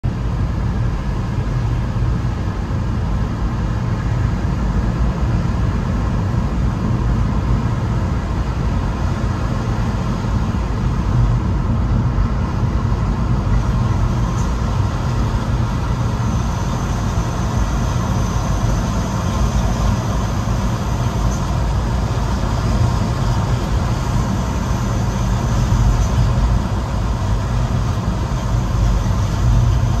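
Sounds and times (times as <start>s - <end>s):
road and engine rumble: 0.0s - 30.0s
faint high whine: 5.6s - 30.0s.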